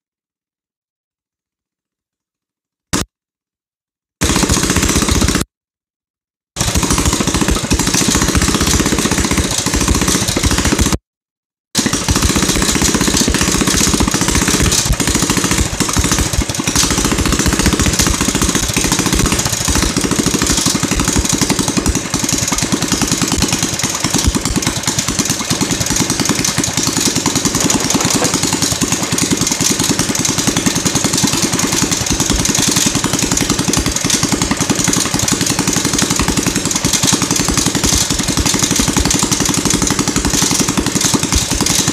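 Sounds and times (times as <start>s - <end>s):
mini bike engine running: 6.6s - 11.0s, 11.8s - 41.9s.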